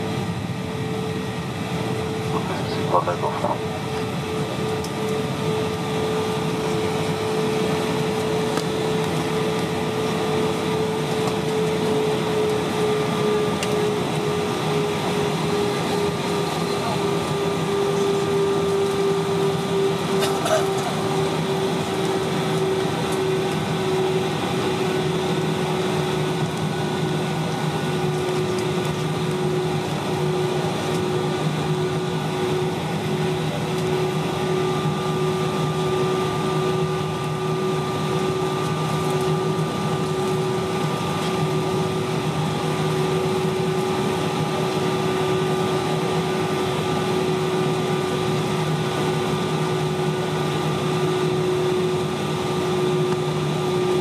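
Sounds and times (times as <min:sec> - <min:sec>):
jet engines idling hum and whine: 0:00.0 - 0:54.0.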